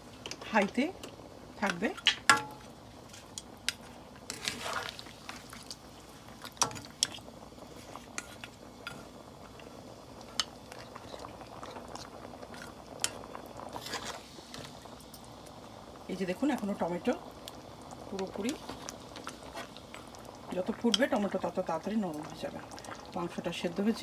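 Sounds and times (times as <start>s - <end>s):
pot simmering hiss: 0.0s - 24.0s.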